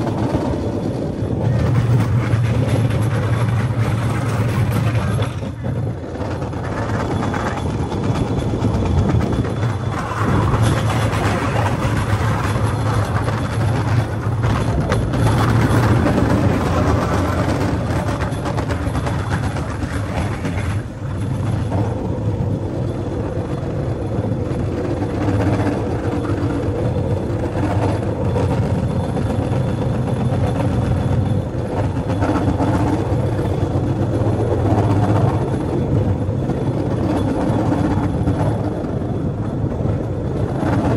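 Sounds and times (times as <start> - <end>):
rail cart rattling on rails: 0.0 - 40.9.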